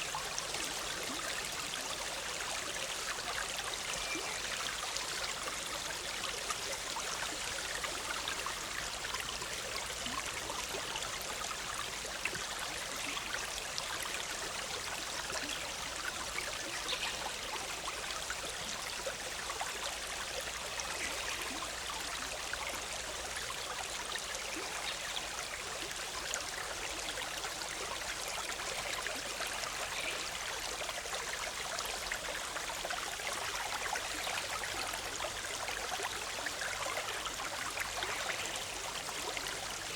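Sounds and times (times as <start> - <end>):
stream bubbling and rushing: 0.0 - 39.9.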